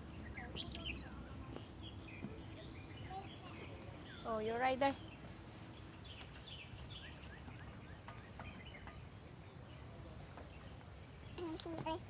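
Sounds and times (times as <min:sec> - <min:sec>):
faint background noise: 0:00.0 - 0:12.0
small bird chirping: 0:00.0 - 0:12.0.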